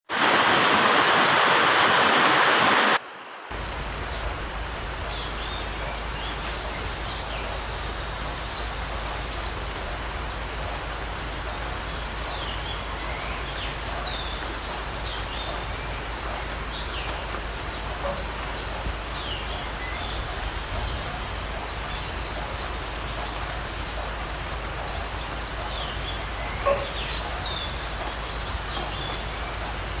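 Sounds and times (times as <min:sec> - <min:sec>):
rain hiss: 0:00.1 - 0:30.0
birds chirping: 0:03.5 - 0:30.0.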